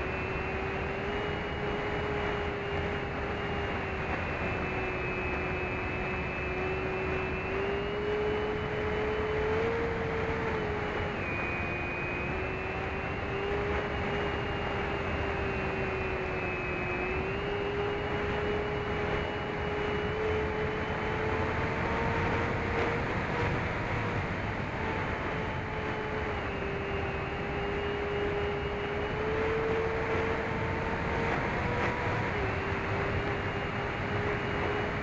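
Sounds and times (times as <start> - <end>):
electric motor and propeller droning: 0.0 - 35.0.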